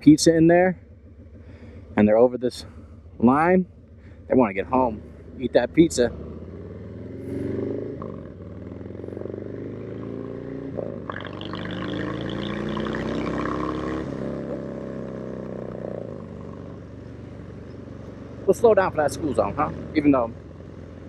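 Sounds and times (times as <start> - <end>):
motorcycle accelerating through gears: 0.8 - 21.0.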